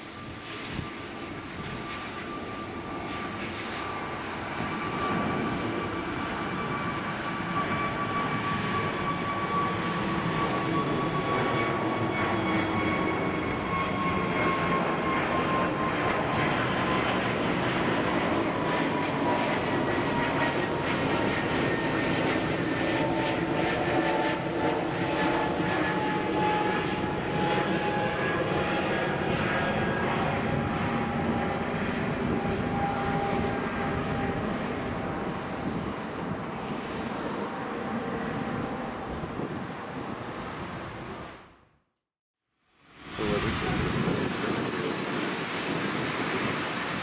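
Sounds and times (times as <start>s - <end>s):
jet engine whine falling in pitch: 0.0s - 41.4s, 43.0s - 47.0s
jet engine noise: 0.0s - 41.7s, 42.8s - 47.0s.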